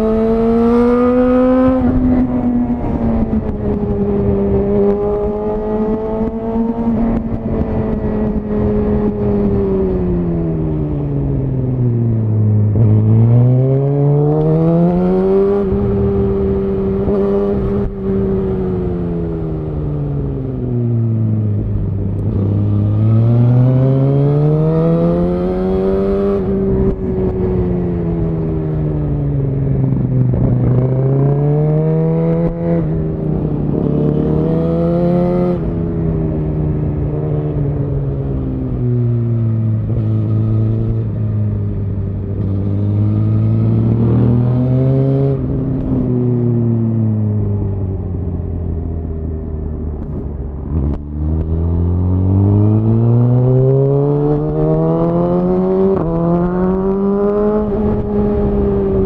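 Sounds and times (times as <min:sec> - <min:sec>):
motorcycle engine revving: 0:00.0 - 0:10.6, 0:12.1 - 0:19.8, 0:21.5 - 0:48.8, 0:49.7 - 0:59.0.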